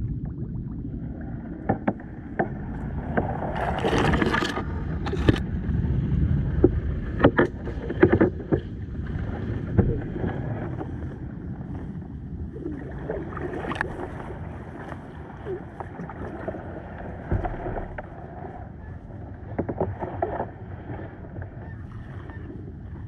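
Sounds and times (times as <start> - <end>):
kayak paddle splashing: 1.0 - 5.4, 6.4 - 23.0.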